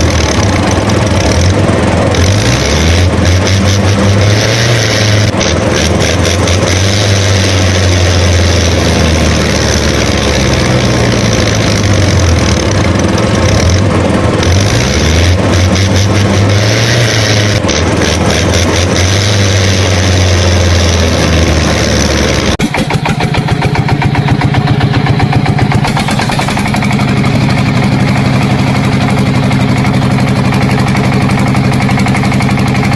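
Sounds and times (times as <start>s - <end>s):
engine running: 0.0s - 32.9s.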